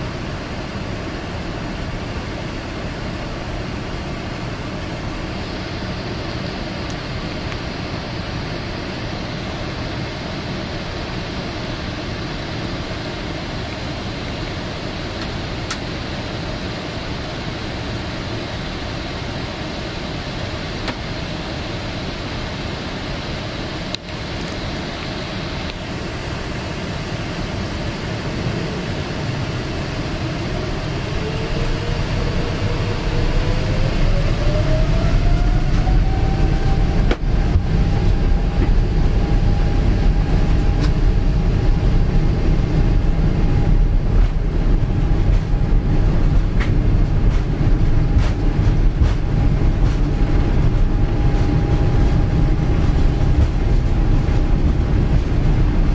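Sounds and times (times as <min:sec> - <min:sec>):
airplane cabin rumble and hiss: 0:00.0 - 0:55.9
jet engine whine: 0:00.0 - 0:55.9.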